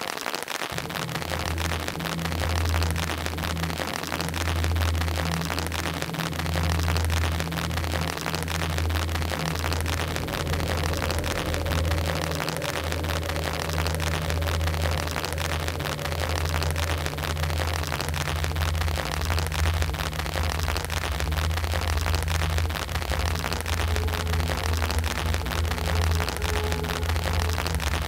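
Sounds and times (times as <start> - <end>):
rain pattering and dripping: 0.0 - 28.0
low droning hum: 0.8 - 28.0.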